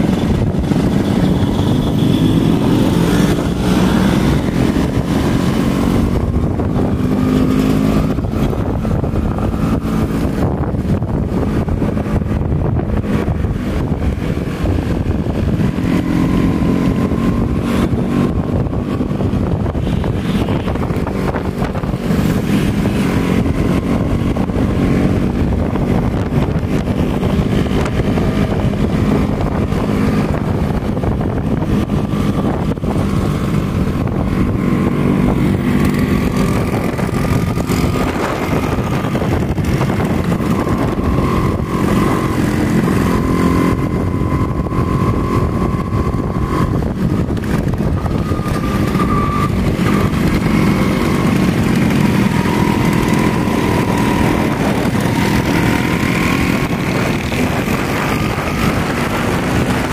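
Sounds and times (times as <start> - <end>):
scooter engines running: 0.0 - 59.9.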